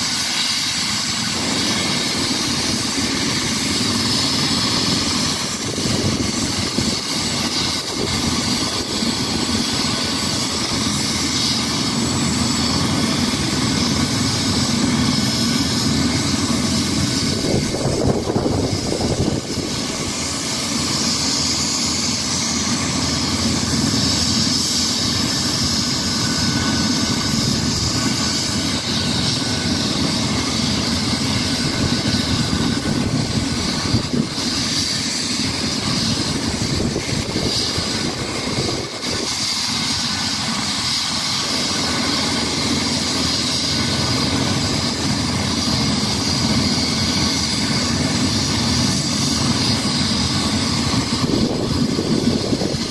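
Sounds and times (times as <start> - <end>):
helicopter turbine whine and rumble: 0.0 - 52.9.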